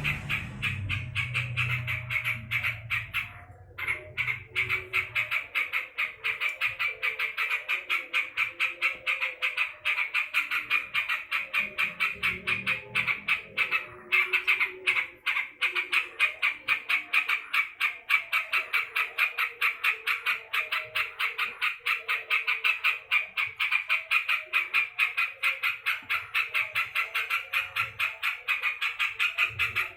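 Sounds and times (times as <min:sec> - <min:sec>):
bird harsh repeated calls: 0:00.0 - 0:29.9.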